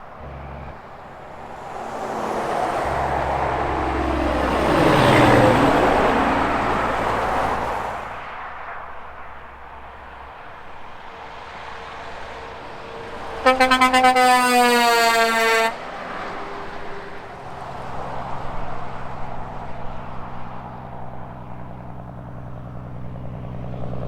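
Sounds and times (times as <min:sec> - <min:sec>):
heavy truck passing: 0:00.0 - 0:24.0.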